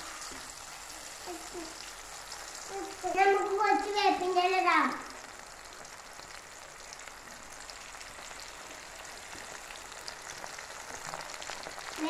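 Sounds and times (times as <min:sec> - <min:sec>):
deep-frying sizzle and crackling: 0:00.0 - 0:12.0.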